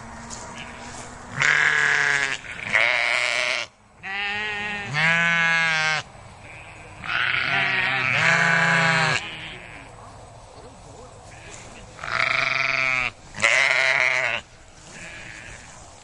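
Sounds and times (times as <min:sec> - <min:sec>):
sheep bleating: 0:00.5 - 0:09.9, 0:11.2 - 0:15.8.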